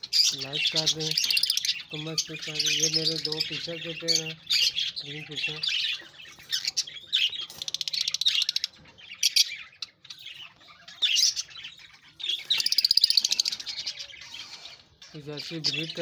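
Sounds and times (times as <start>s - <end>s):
fast rattling bird chatter: 0.0s - 16.0s
lovebirds chirping shrilly: 0.0s - 16.0s.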